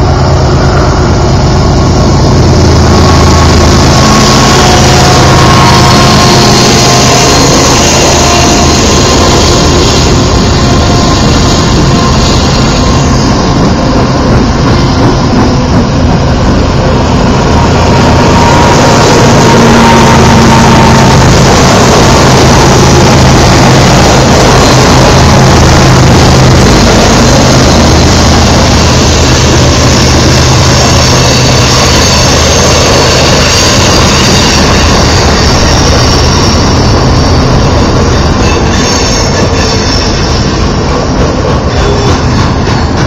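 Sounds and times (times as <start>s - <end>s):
diesel locomotive engines droning: 0.0s - 43.0s
freight cars rumbling: 0.0s - 43.0s.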